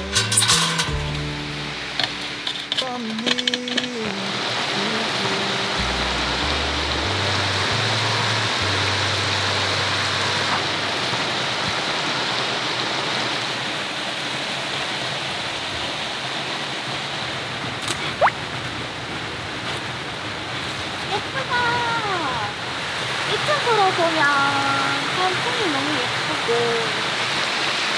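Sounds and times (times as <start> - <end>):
stream rushing over rocks: 0.0 - 27.9.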